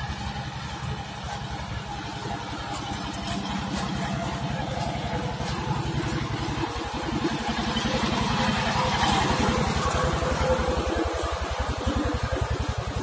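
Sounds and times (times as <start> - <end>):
concrete mixer engine chugging: 0.0 - 13.0.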